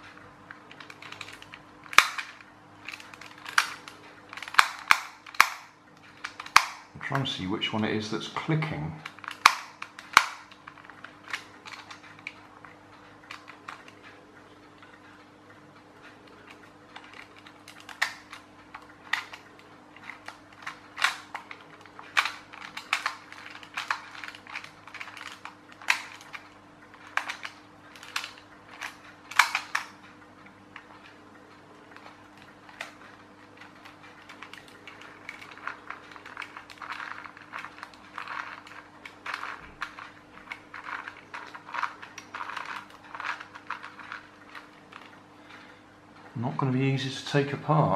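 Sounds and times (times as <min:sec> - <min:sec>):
plastic gears clicking: 0:00.0 - 0:14.2, 0:16.0 - 0:45.7.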